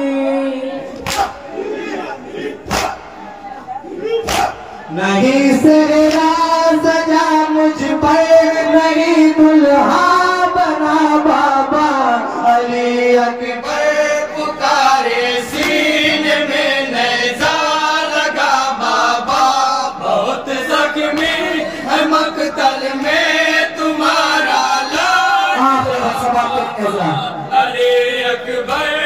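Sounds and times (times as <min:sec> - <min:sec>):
man singing into a microphone: 0:00.0 - 0:00.9, 0:04.9 - 0:29.0
men chanting: 0:00.0 - 0:29.0.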